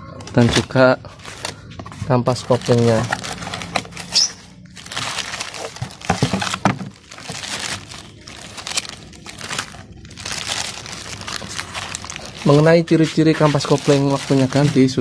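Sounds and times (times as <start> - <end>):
cardboard packaging rustling: 0.3 - 15.0
plastic wrapping crinkling: 0.4 - 15.0.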